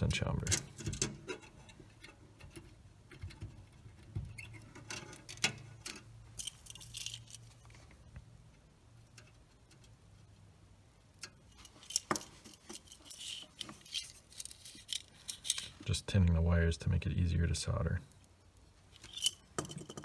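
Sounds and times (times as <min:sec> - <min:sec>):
clicks and scratches on metal: 0:00.0 - 0:10.5, 0:11.1 - 0:15.9, 0:18.1 - 0:20.0.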